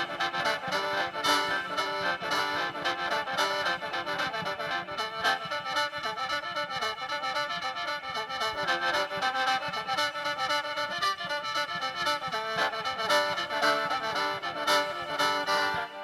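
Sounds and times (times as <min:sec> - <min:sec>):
reedy khaen melody: 0:00.0 - 0:16.0.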